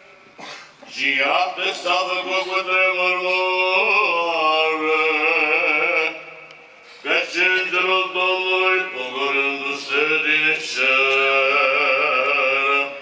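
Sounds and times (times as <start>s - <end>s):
man chanting in echoing church: 0.0s - 13.0s.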